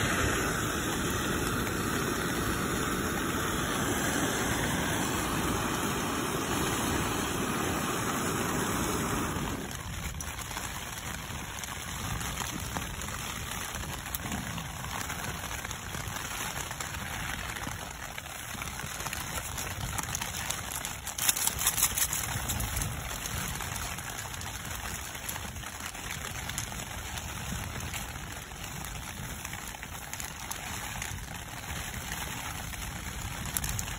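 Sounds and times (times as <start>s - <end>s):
rain on tent fabric: 0.0s - 33.9s.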